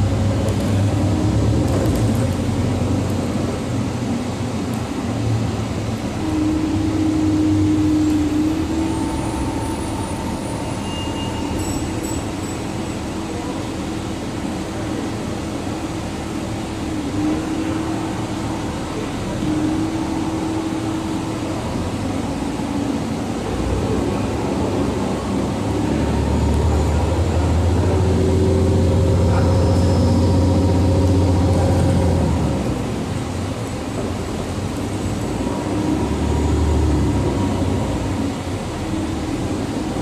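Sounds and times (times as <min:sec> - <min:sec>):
bus engine and road noise: 0:00.0 - 0:40.0.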